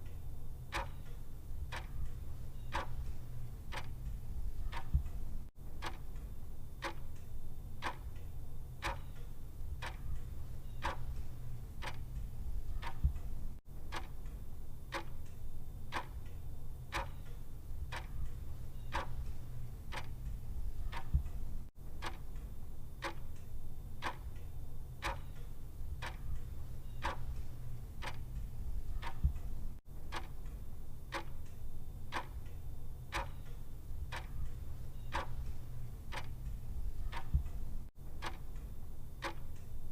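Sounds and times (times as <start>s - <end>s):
low steady hum: 0.0s - 39.9s
clock ticking: 0.7s - 8.2s, 8.8s - 39.8s.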